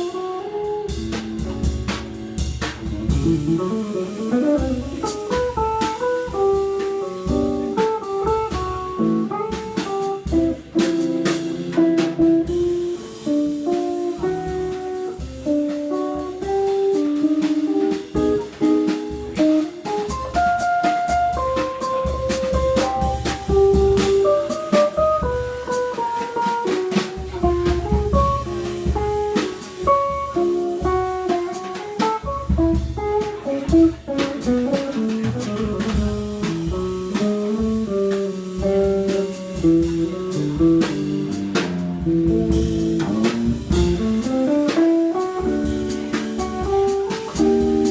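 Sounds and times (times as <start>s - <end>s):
drum kit on cymbals and drums: 0.0s - 47.9s
jazz guitar single notes: 0.0s - 47.9s.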